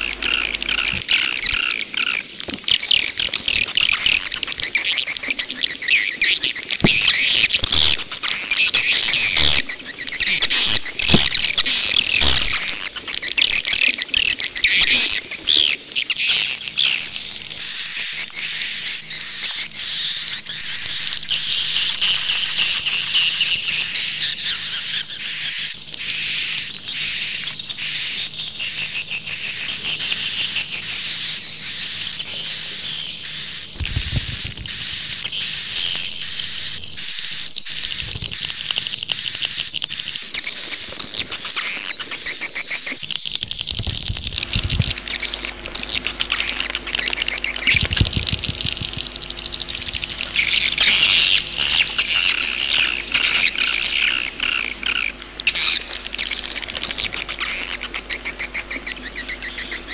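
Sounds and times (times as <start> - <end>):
swiftlets twittering: 0.0 - 59.9.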